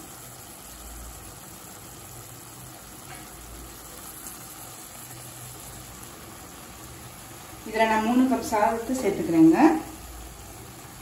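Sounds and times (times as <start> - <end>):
faint simmering sizzle: 0.0 - 11.0.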